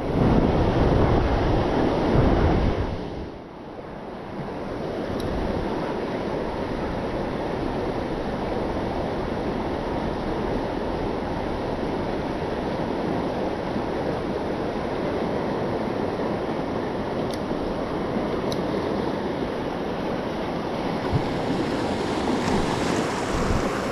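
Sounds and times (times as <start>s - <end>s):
river water rushing: 4.2s - 23.9s.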